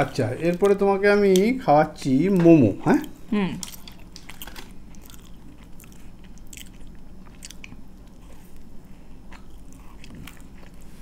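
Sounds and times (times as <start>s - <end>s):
chewing and crunching food: 0.4s - 11.0s.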